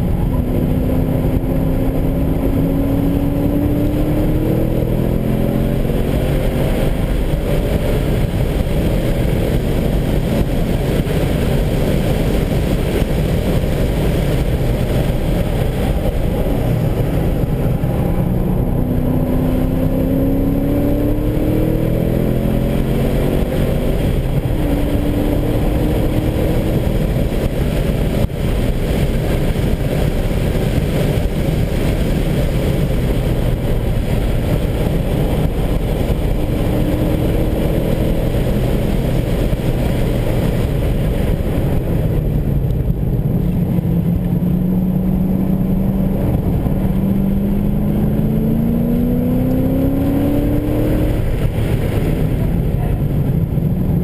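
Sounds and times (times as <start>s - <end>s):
car engine accelerating: 0.0s - 54.0s
wind noise in car cabin: 0.0s - 54.0s.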